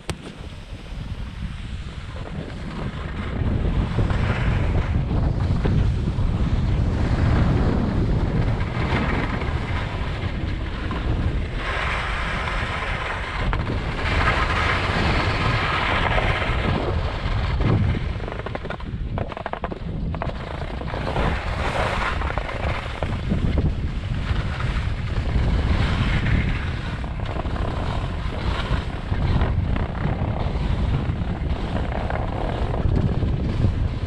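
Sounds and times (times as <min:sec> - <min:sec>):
skis scraping over snow: 0:00.0 - 0:34.0
wind buffeting microphone: 0:00.0 - 0:34.0.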